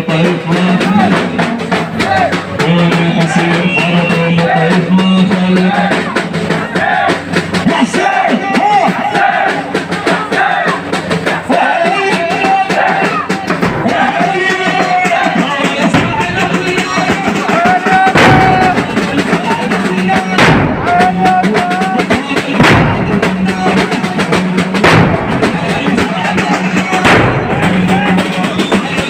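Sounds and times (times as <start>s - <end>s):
heavy drum strikes: 0.0s - 29.0s
voices chanting: 0.2s - 29.0s.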